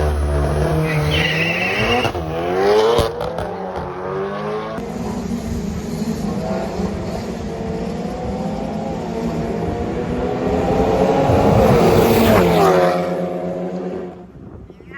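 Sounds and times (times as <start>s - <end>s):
drag racing cars accelerating: 0.0s - 14.4s.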